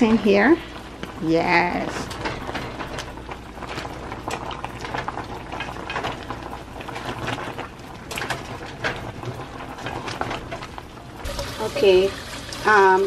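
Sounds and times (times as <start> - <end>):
broth bubbling in metal pot: 0.0 - 13.0.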